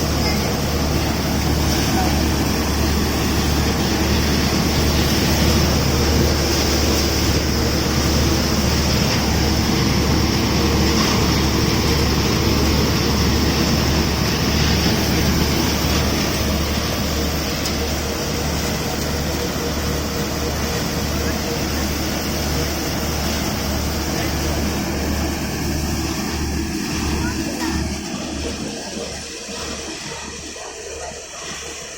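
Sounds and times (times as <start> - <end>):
thresher machine running: 0.0 - 31.9.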